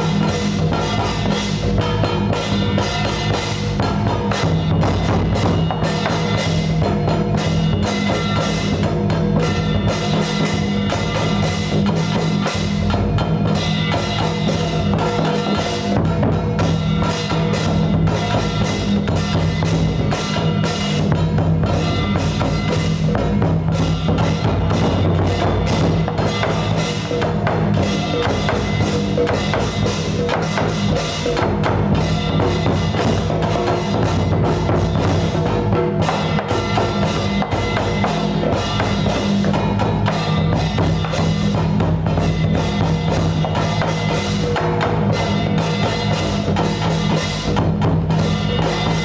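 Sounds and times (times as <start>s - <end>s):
fast wood block percussion music: 0.0s - 49.0s.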